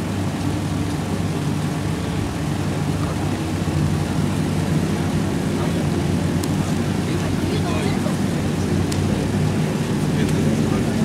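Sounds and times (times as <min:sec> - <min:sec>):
diesel railcar engine humming: 0:00.0 - 0:11.0.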